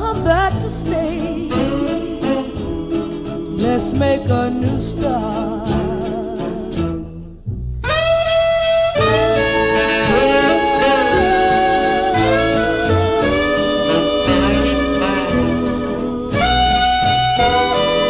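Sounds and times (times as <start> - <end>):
instrumental lead melody: 0.0 - 18.0
steady bass line: 0.0 - 18.0.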